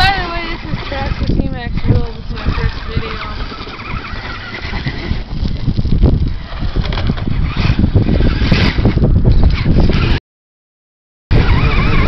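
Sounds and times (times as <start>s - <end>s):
electric motors whining: 0.0s - 10.2s, 11.3s - 12.0s
tyres scrabbling over gravel: 0.0s - 10.2s.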